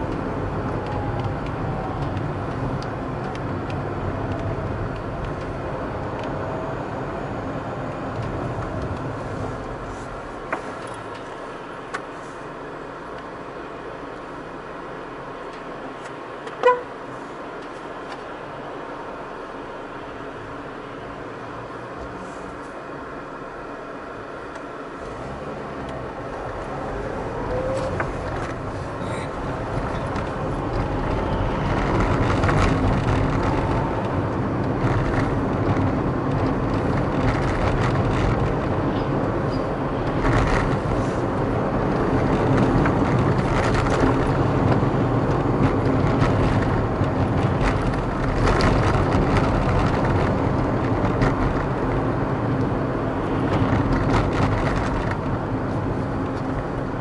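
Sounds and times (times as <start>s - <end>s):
car engine: 0.0s - 57.0s.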